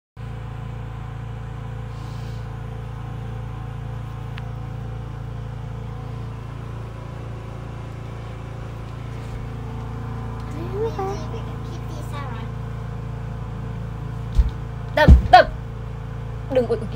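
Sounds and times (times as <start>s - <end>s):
low machine hum: 0.2s - 16.9s.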